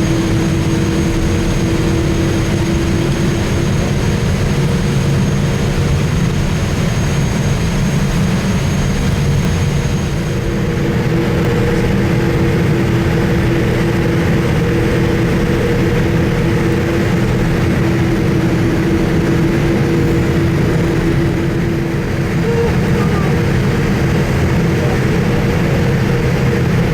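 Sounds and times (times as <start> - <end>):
jet engine and airflow noise: 0.0 - 26.9.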